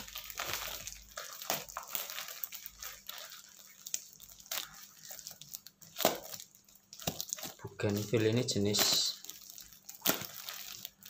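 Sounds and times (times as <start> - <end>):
plastic packaging crinkling and tearing: 0.0 - 11.0.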